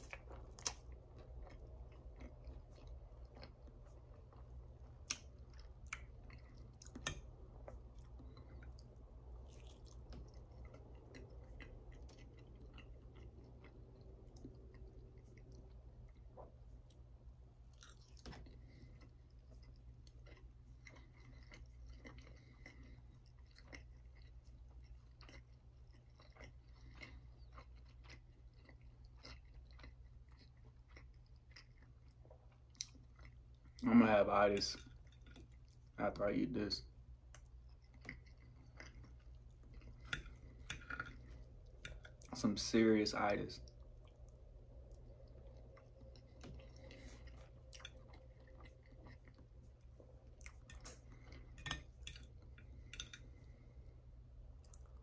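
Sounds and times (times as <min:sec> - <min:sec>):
man chewing food: 0:00.0 - 0:42.6, 0:43.2 - 0:55.0
low steady hum: 0:00.0 - 0:55.0.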